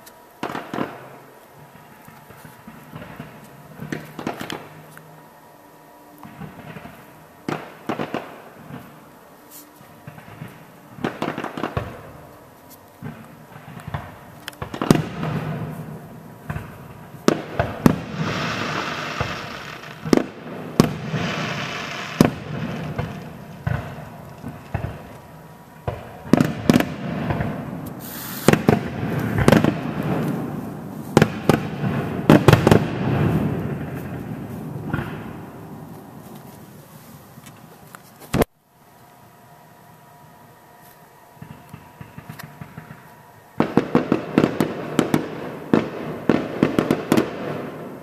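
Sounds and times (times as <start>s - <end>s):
fireworks bangs: 0.0s - 5.2s, 5.9s - 38.5s, 41.4s - 48.0s
continuous rushing noise: 0.0s - 48.0s.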